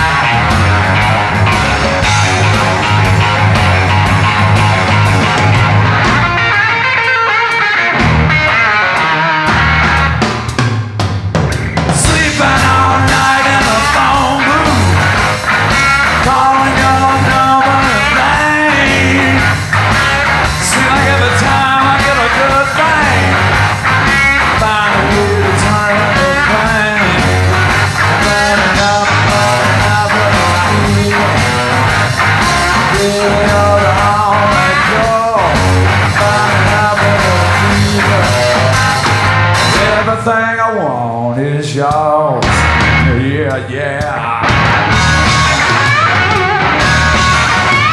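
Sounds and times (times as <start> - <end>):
electric guitar lead: 0.0 - 40.6, 42.4 - 47.9
rock band playing: 0.0 - 47.9.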